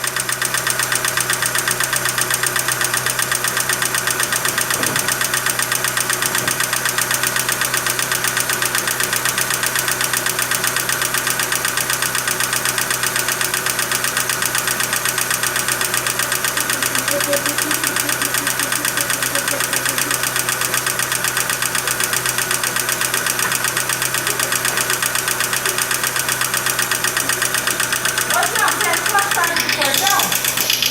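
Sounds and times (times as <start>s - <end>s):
car engine idling: 0.0s - 30.9s
fast even engine tapping: 0.0s - 30.9s.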